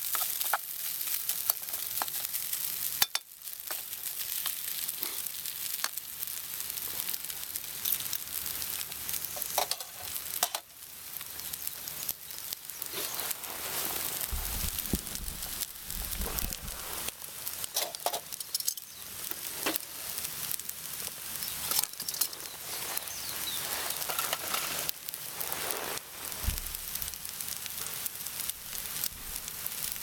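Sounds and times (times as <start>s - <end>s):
rice sizzling in frying pan: 0.0s - 30.0s.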